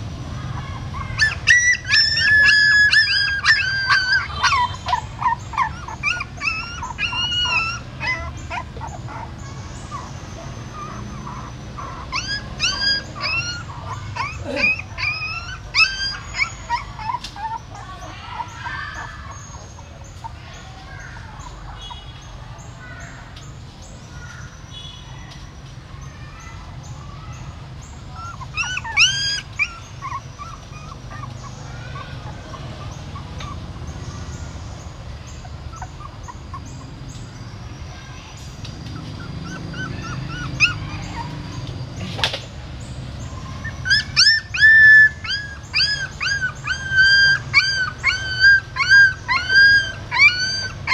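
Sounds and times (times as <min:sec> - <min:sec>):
puppies whimpering and squealing: 0:00.0 - 0:23.1, 0:26.0 - 0:50.9.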